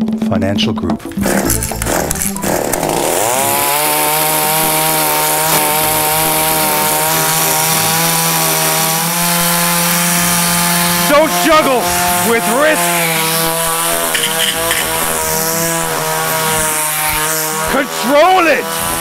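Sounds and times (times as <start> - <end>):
chainsaw engine revving: 1.0 - 19.0.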